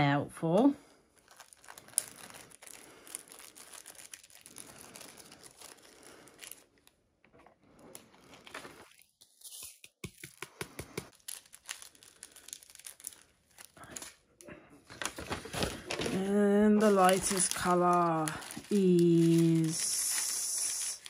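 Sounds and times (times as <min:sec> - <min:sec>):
plastic bags crinkling: 0:01.2 - 0:07.0, 0:07.6 - 0:09.4, 0:10.9 - 0:21.0.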